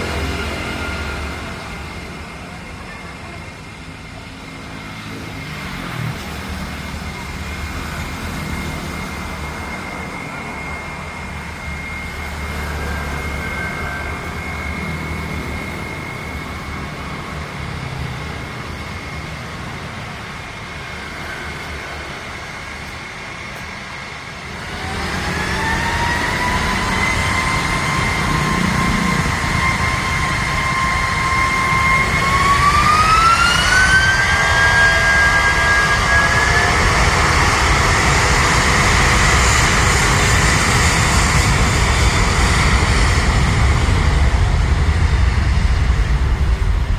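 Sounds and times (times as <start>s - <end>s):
jet engines spooling up: 0.0s - 46.9s.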